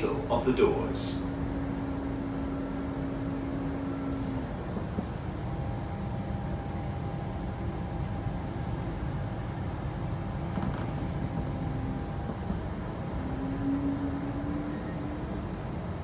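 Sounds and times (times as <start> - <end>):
faint steady whine: 0.0 - 16.0
train low rumble: 0.0 - 16.0.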